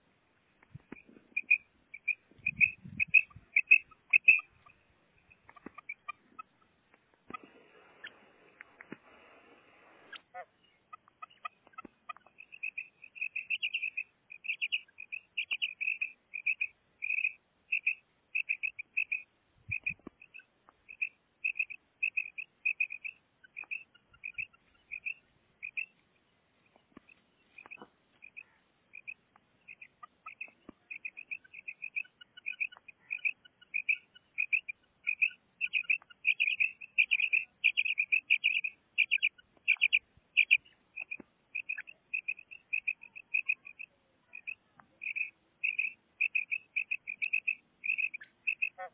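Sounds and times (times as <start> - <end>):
quail calling: 0.8 - 8.2, 10.1 - 26.0, 26.7 - 48.9.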